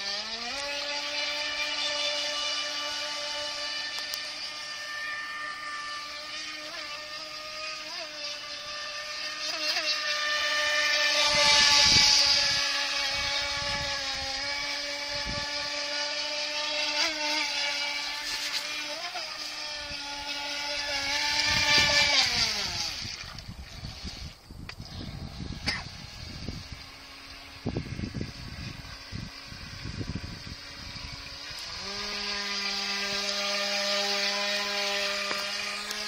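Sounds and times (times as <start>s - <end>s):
electric motor whining: 0.0s - 36.0s.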